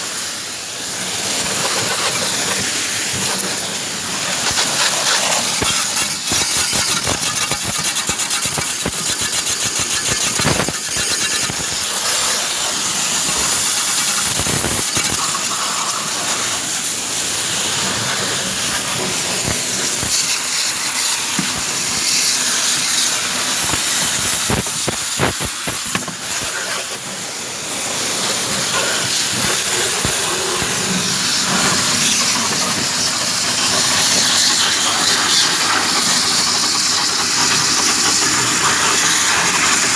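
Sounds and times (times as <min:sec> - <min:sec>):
loud steady hissing: 0:00.0 - 0:39.9.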